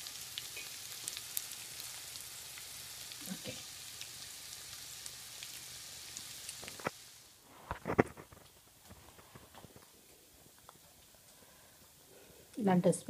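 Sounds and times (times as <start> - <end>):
small crackles and pops: 0.0 - 12.6
food sizzling in a pan: 0.0 - 13.0.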